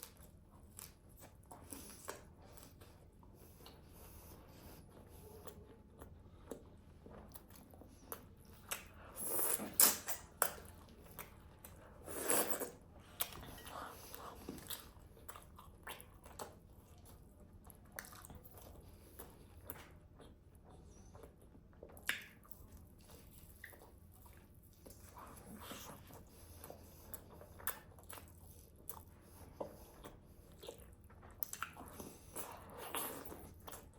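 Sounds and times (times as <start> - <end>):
chewing with wet clicks: 0.0 - 33.9.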